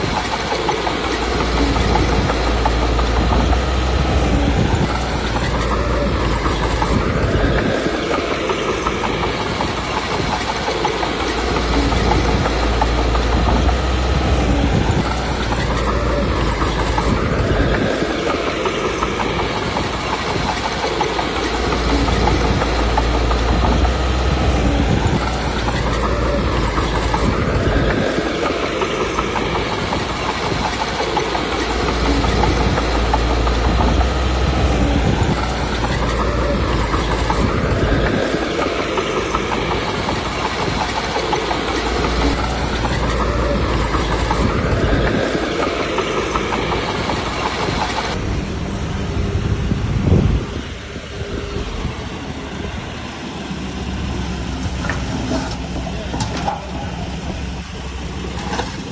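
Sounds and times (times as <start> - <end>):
bulldozer diesel engine under load: 0.0 - 58.9
steel tracks clanking: 0.0 - 58.9.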